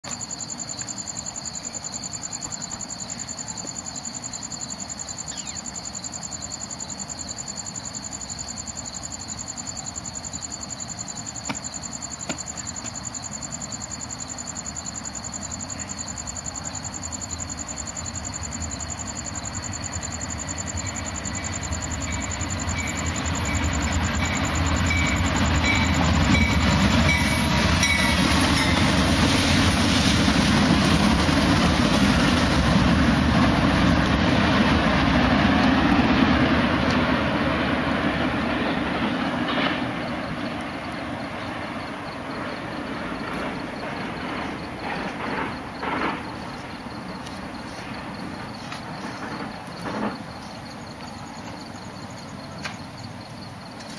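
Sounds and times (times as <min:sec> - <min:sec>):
diesel locomotive engine rumble: 0:00.9 - 0:53.9.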